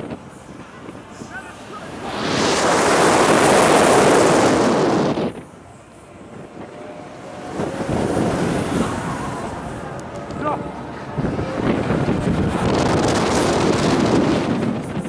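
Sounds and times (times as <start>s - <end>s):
mixed background noise: 0.0s - 15.0s
wind rushing over microphone: 0.0s - 15.0s.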